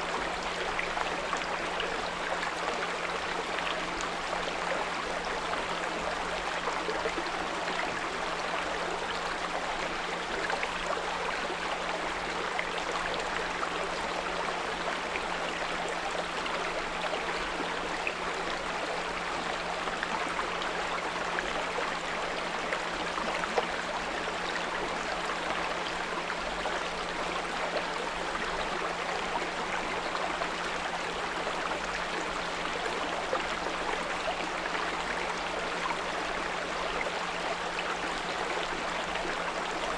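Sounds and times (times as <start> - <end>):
small brook babbling: 0.0 - 39.9.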